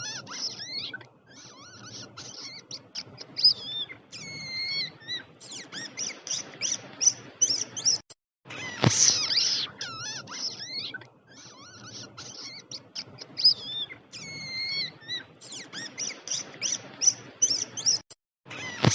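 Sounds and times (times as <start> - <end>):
rats squeaking: 0.0 - 18.9.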